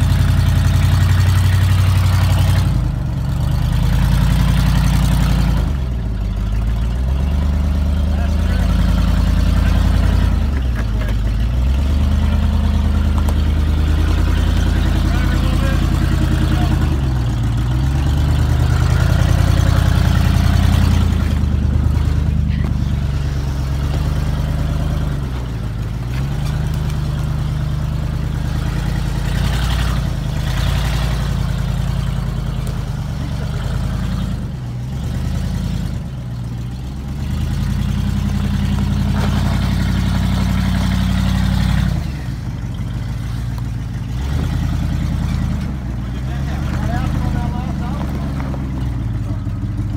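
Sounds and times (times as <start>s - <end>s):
engine running under load: 0.0s - 49.9s.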